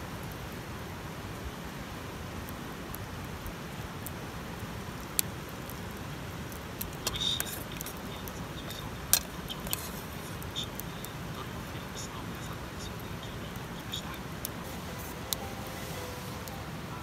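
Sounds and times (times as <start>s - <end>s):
campfire hissing and crackling: 0.0s - 17.0s.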